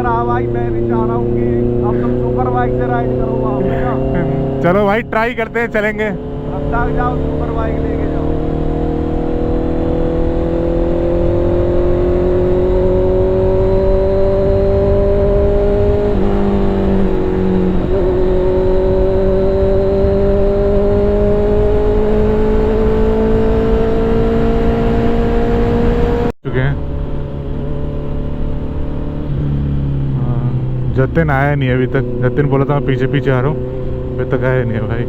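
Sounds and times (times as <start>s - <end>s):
low wind rumble: 0.0s - 35.0s
motorcycle engine revving: 0.0s - 35.0s.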